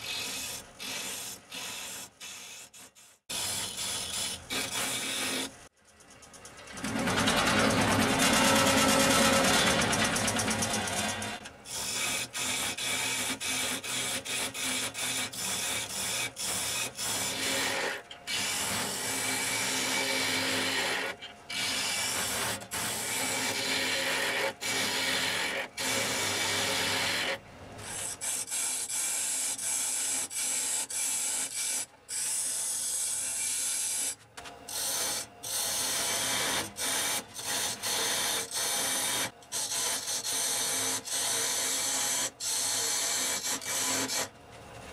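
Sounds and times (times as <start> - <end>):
tool scraping wood on lathe: 0.0 - 44.3.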